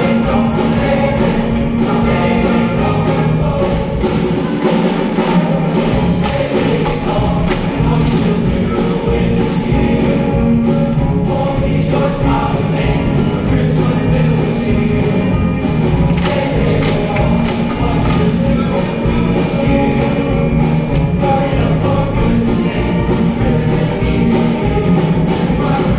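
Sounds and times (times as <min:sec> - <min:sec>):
choir singing: 0:00.0 - 0:25.9
instrumental accompaniment: 0:00.0 - 0:25.9
percussion beating steadily: 0:00.0 - 0:25.9.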